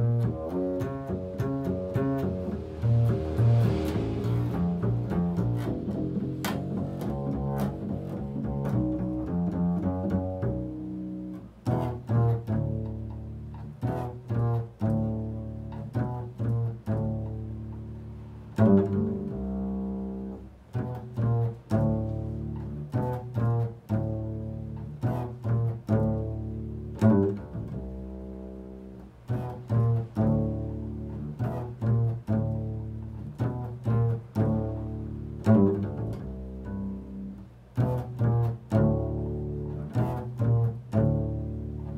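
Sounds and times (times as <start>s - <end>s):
double bass plucked notes: 0.0s - 41.9s.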